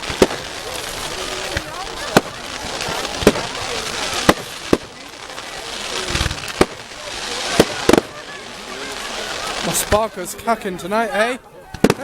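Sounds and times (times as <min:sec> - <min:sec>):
fireworks bangs: 0:00.0 - 0:10.6, 0:11.7 - 0:12.0
background hiss: 0:00.0 - 0:11.4.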